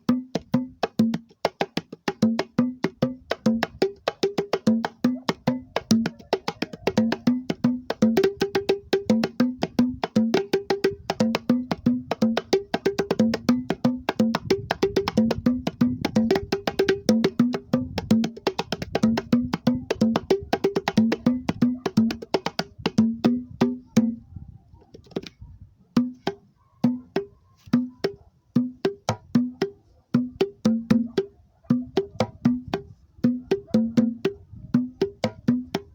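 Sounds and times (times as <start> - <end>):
hand drums quick rhythm: 0.0 - 24.2, 26.0 - 35.9.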